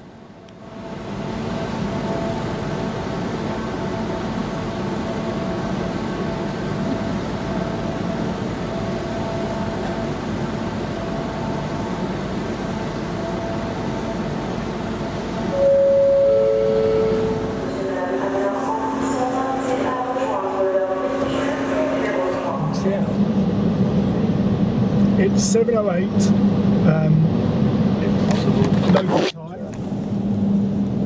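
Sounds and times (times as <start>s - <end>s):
ship machinery rumble and hum: 0.0s - 31.0s.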